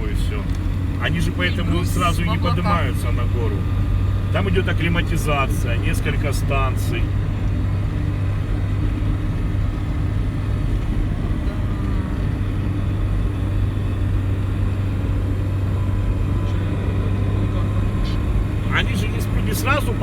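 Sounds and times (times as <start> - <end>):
car engine and road drone: 0.0 - 20.0.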